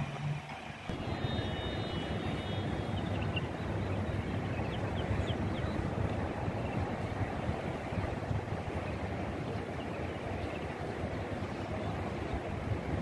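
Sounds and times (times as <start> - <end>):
distant traffic: 0.0 - 13.0
wind rumble: 0.9 - 13.0.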